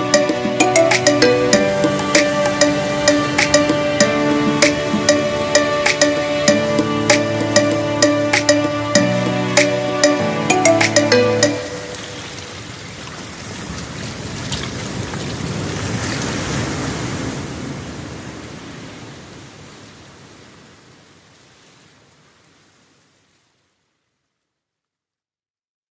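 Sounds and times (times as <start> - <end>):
sea waves washing in: 0.0 - 23.7.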